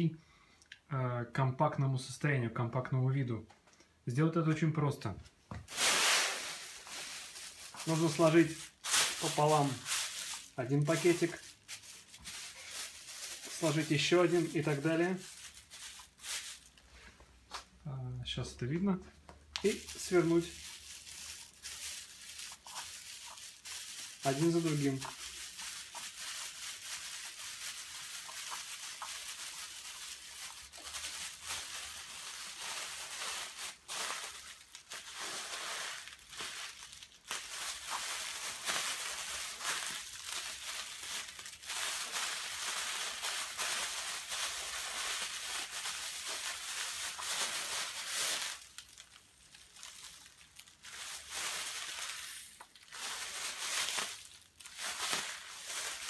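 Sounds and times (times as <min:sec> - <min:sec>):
plastic bags crinkling: 0:05.6 - 0:17.7, 0:19.0 - 0:56.0.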